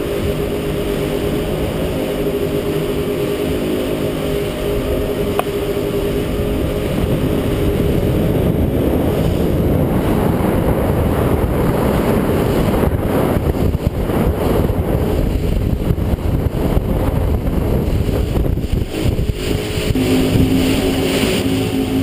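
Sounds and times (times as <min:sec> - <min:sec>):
churning boat wake: 0:00.0 - 0:22.0
outboard motors at speed: 0:00.0 - 0:22.0
wind on microphone: 0:00.0 - 0:22.0.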